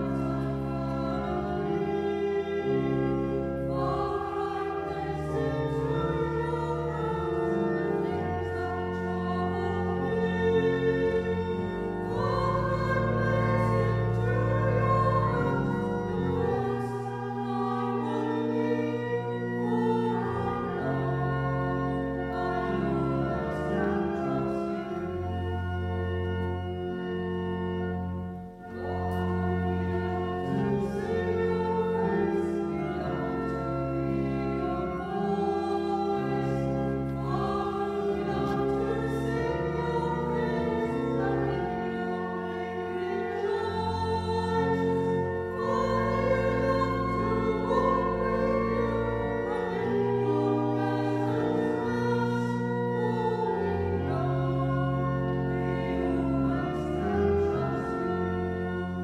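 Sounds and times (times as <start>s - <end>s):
women's choir singing: 0.0s - 25.1s, 29.2s - 58.0s
organ chords: 0.0s - 59.0s.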